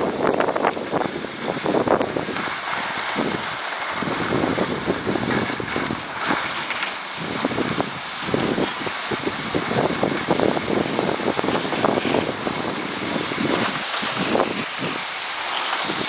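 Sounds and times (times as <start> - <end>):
skis sliding on snow: 0.0 - 16.0
wind buffeting microphone: 0.0 - 16.0.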